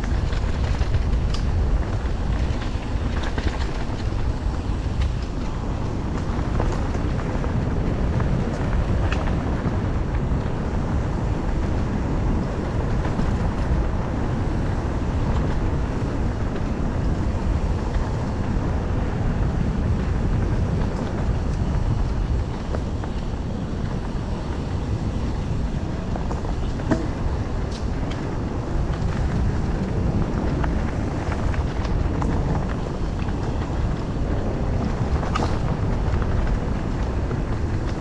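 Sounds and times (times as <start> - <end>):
steady low rumble: 0.0 - 38.0
wind buffeting microphone: 0.0 - 38.0.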